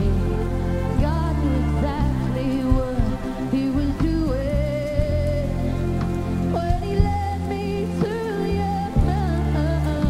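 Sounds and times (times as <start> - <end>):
muffled acoustic pop ballad: 0.0 - 10.0
rain pattering: 0.0 - 10.0.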